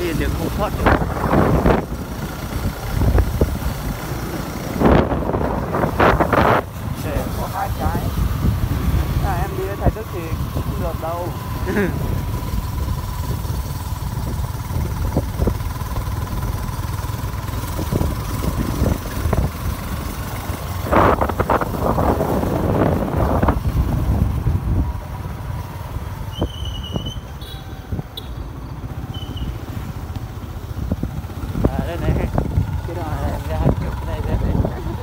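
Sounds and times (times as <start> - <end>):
wind buffeting microphone: 0.0 - 28.2, 29.4 - 35.0
motorbike engine running: 0.0 - 35.0.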